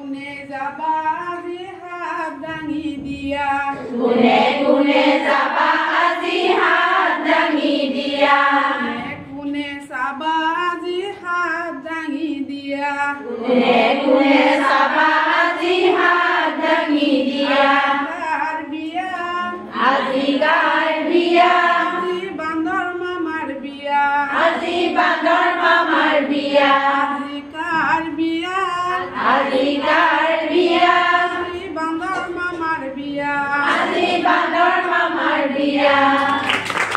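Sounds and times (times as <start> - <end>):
high voices singing together: 0.0 - 9.8, 12.1 - 36.9.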